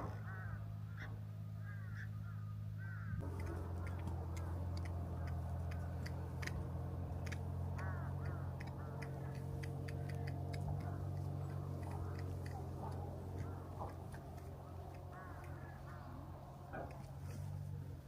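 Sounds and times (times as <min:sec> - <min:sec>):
crows cawing: 0:00.0 - 0:17.7
low hum: 0:00.0 - 0:18.0
sharp clicks: 0:03.2 - 0:17.7.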